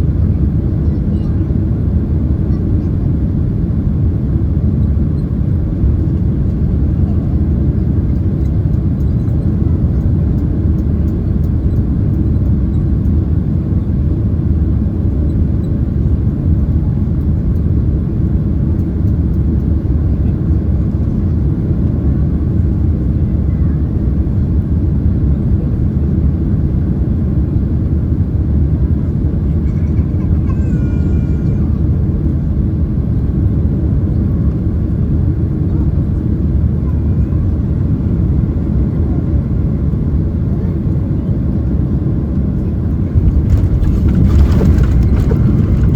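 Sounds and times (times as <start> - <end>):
airplane cabin roar: 0.0 - 45.9.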